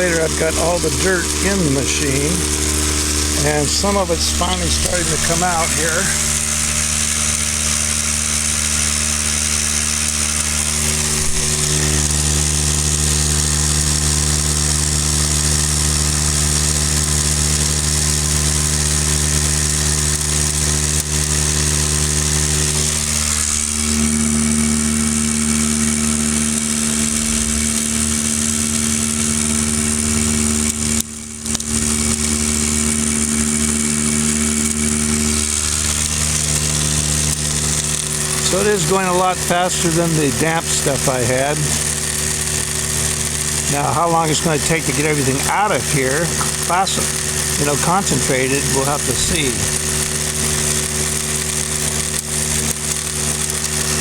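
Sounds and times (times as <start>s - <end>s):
stronger hum tone: 0.0s - 53.0s
drywasher mechanical hum: 0.0s - 54.0s.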